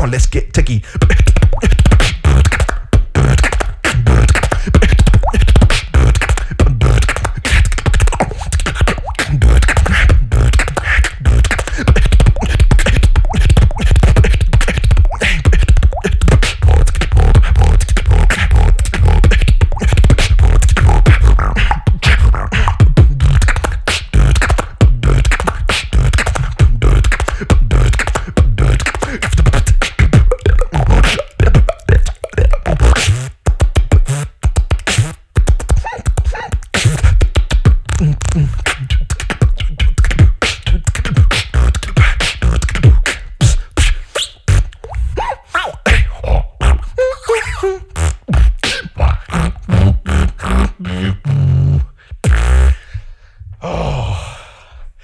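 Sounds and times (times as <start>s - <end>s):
beatboxing into a microphone: 0.0s - 54.5s.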